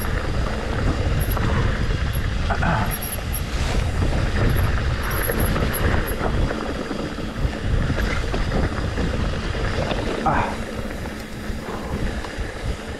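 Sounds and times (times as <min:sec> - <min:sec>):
mountain bike rumble and knocks: 0:00.0 - 0:12.9
wind buffeting microphone: 0:00.0 - 0:12.9.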